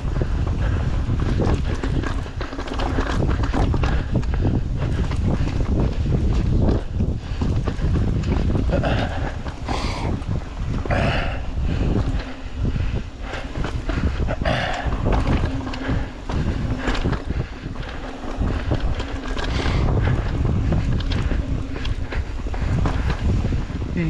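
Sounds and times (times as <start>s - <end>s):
bike knocks and rattles: 0.0s - 24.0s
bike tyres rumbling on dirt: 0.0s - 24.0s
wind buffeting microphone: 0.0s - 24.0s.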